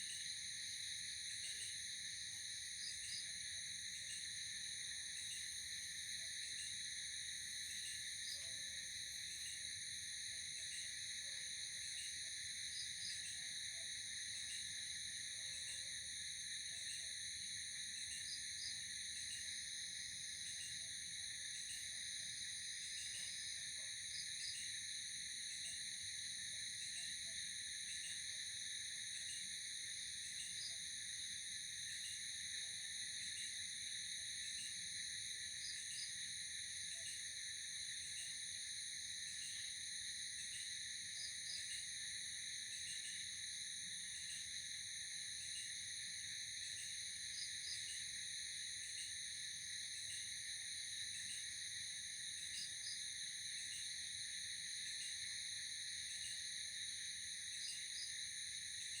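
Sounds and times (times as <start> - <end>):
insect chirps: 0.0 - 59.0.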